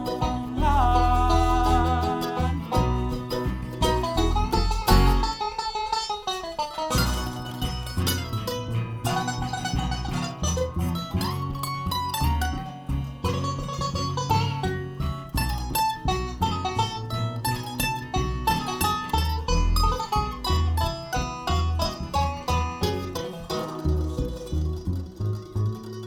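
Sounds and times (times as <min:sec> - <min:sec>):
steady bass line: 0:00.0 - 0:05.4, 0:06.9 - 0:26.0
picked acoustic string instruments: 0:00.0 - 0:26.0.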